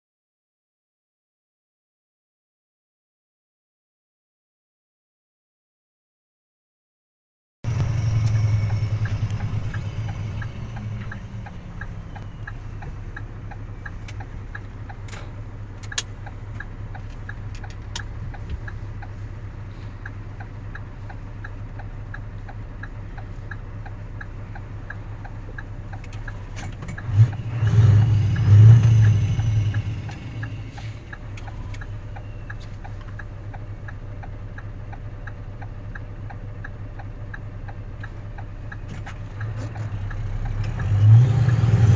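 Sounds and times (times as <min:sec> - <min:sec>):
diesel engine idling: 0:07.7 - 0:41.8
even ticking: 0:07.7 - 0:41.8.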